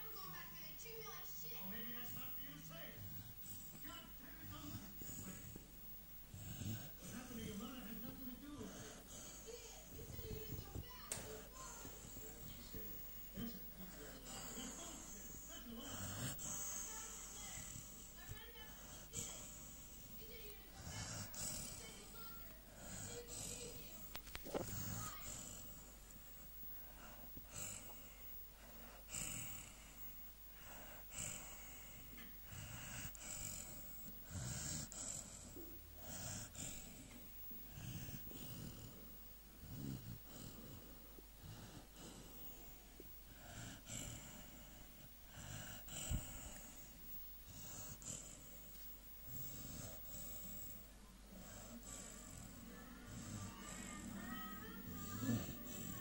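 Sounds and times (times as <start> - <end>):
dog snoring with high hiss: 0.0 - 56.0.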